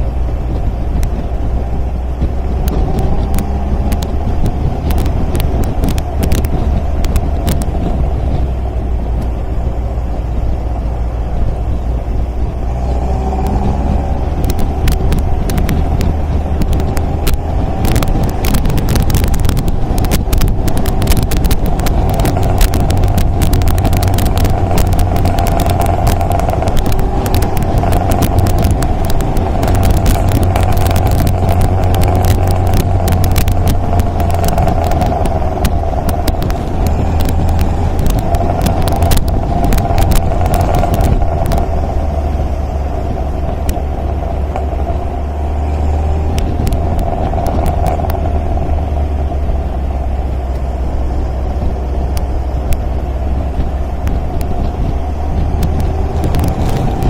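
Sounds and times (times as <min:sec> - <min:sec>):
car engine droning: 0:00.0 - 0:57.0
sharp crackles: 0:00.0 - 0:57.0.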